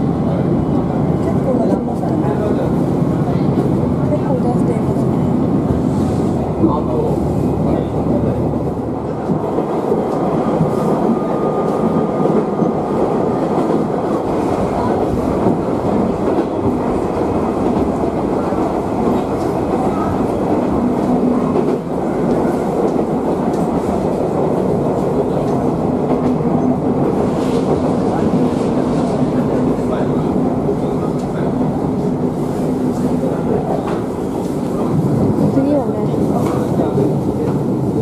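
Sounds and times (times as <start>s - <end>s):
railcar engine and wheels rumbling: 0.0s - 38.0s.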